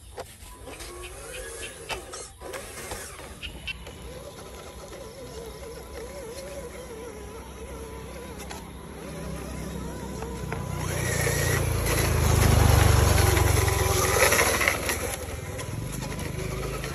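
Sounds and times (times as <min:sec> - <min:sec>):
model truck motor whirring: 0:00.0 - 0:16.9
tyres on gritty ground: 0:00.0 - 0:16.9.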